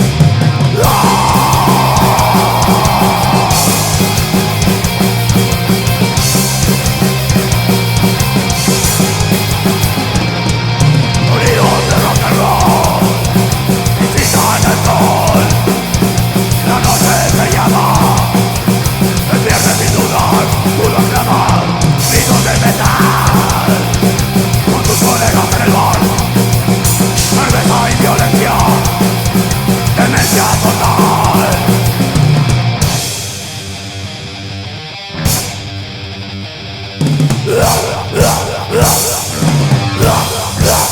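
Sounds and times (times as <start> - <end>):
heavy rock band music: 0.0 - 40.9.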